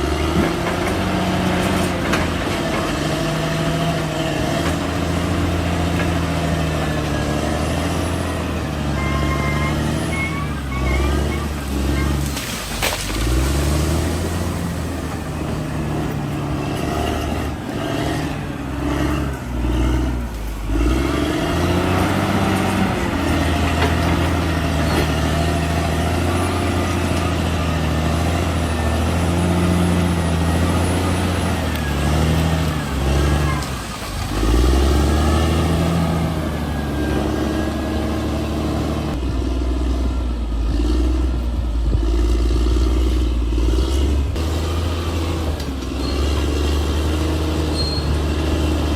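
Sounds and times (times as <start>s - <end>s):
bulldozer diesel engine: 0.0s - 48.9s.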